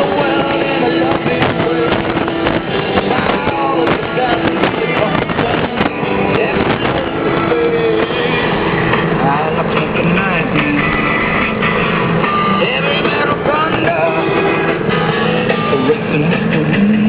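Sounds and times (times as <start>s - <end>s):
music playing: 0.0s - 17.0s
vehicle engine and wind noise: 0.0s - 17.0s.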